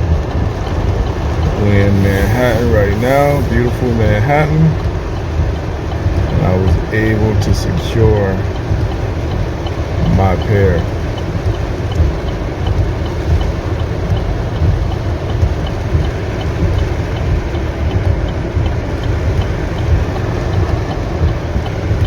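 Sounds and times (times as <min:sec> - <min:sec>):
city street traffic: 0:00.0 - 0:22.0
faint high ticking: 0:00.0 - 0:22.0
heavy rain: 0:00.0 - 0:22.0.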